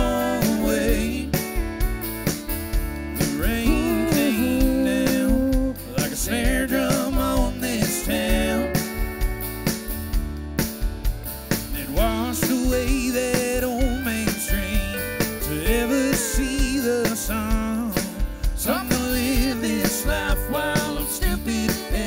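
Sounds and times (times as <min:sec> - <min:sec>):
country band playing: 0:00.0 - 0:22.0.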